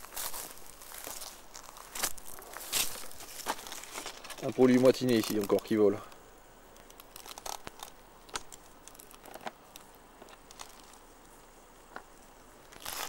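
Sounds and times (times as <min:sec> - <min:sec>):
dry grass crackling underfoot: 0:00.0 - 0:13.0.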